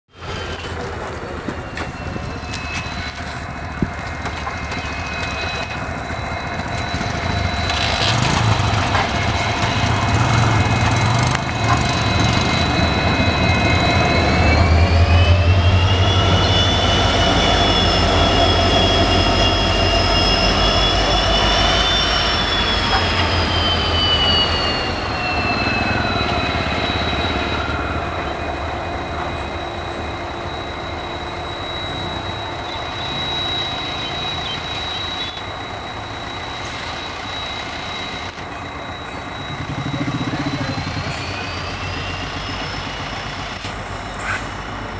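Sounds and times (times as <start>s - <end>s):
diesel locomotive engine throbbing: 0.1s - 44.9s
high turbocharger whine: 0.2s - 44.9s.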